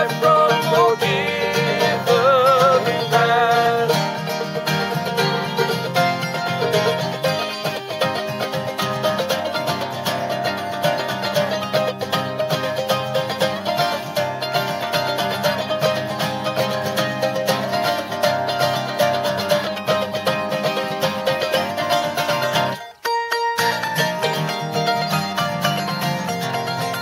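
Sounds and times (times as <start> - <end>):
acoustic guitar strumming: 0.0 - 27.0
mandolin picking: 0.0 - 27.0.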